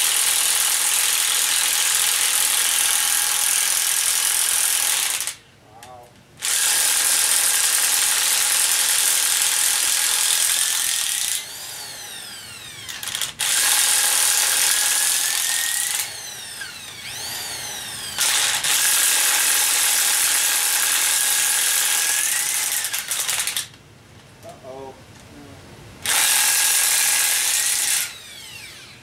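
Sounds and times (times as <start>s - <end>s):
power wrench running: 0.0s - 5.4s, 6.4s - 23.7s, 26.0s - 29.0s.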